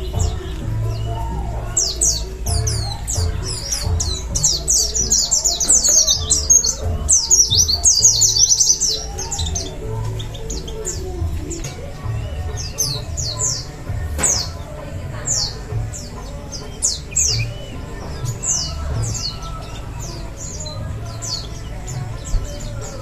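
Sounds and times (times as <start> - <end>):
background music with low beat: 0.0 - 23.0
birds twittering: 0.0 - 23.0.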